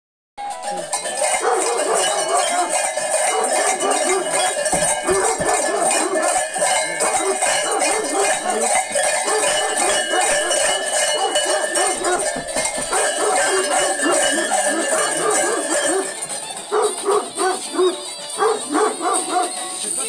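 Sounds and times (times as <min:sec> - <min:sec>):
bells jangling and clanking: 0:00.4 - 0:20.0
clamour of voices: 0:00.4 - 0:20.0.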